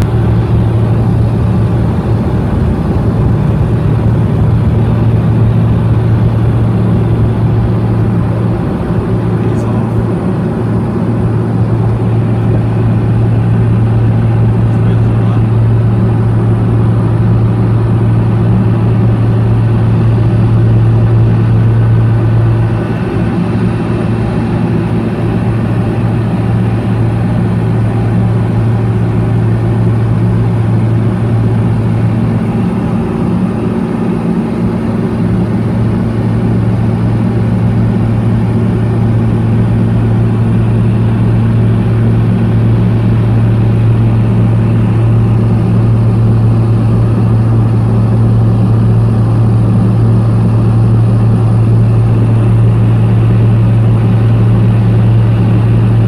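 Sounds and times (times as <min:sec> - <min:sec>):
propeller aircraft cabin drone: 0:00.0 - 0:56.0.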